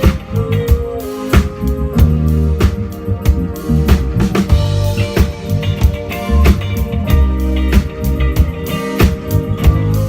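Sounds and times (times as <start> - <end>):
band playing drums and guitar: 0.0 - 10.0.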